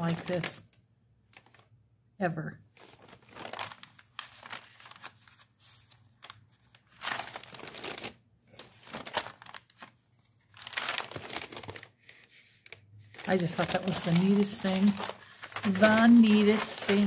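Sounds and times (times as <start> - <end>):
paper rustling and crinkling: 0.0 - 0.7, 1.3 - 1.7, 2.8 - 17.0.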